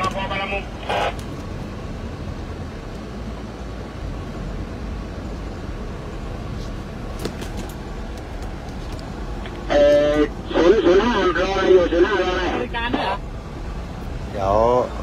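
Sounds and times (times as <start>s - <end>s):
engine and road noise inside van: 0.0s - 15.0s.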